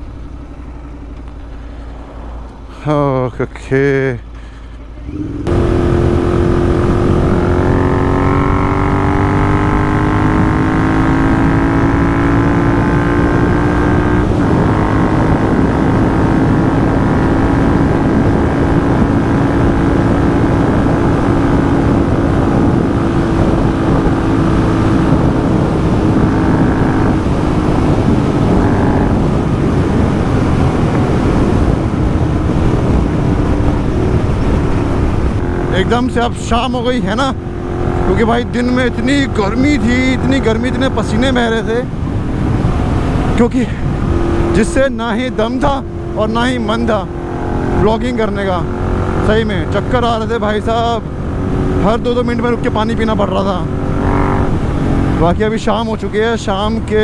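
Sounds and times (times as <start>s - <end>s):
motorcycle engine accelerating: 0.0s - 3.1s, 3.9s - 57.0s.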